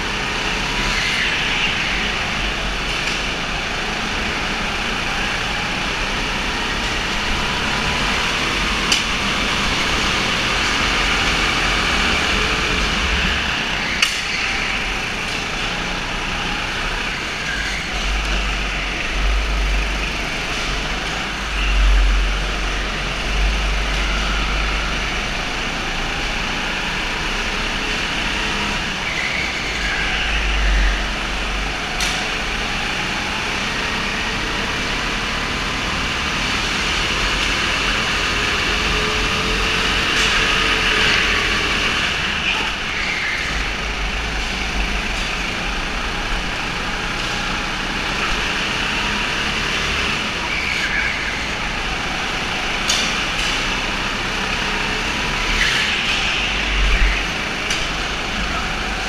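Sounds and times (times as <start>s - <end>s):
go-kart engines racing: 0.0s - 59.0s.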